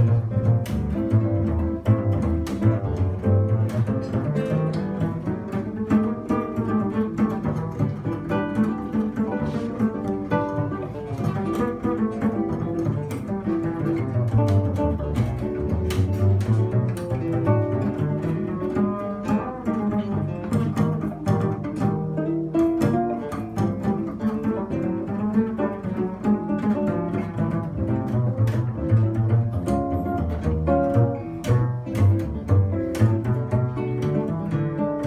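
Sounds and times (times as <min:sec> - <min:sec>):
acoustic guitar picking: 0:00.0 - 0:35.0
double bass plucked: 0:00.0 - 0:35.0.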